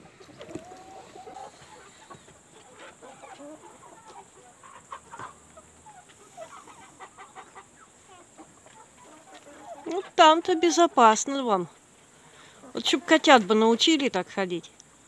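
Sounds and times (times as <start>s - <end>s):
chickens clucking faintly: 0.0s - 14.0s.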